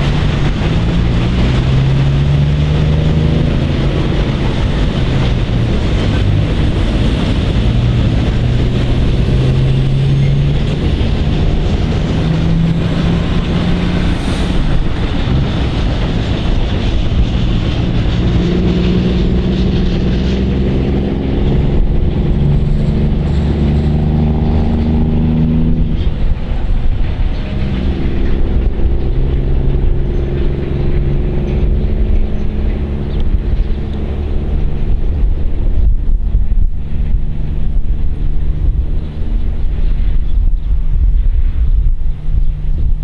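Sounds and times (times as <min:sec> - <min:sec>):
freight train rumbling past: 0:00.0 - 0:43.0
low engine drone: 0:00.0 - 0:43.0.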